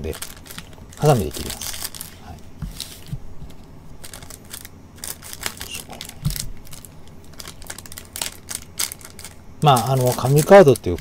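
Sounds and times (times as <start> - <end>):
card pack wrappers crinkling: 0.0 - 11.0.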